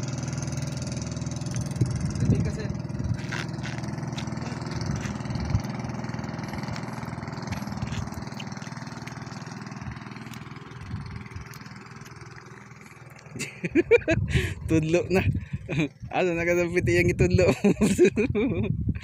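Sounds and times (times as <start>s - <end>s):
boat engine running: 0.0s - 18.6s.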